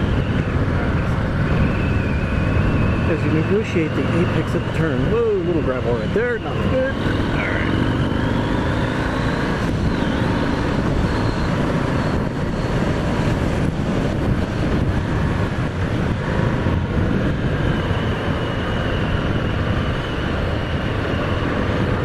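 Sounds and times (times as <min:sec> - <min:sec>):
motorcycle engine at road speed: 0:00.0 - 0:22.0
wind rushing over microphone: 0:00.0 - 0:22.0.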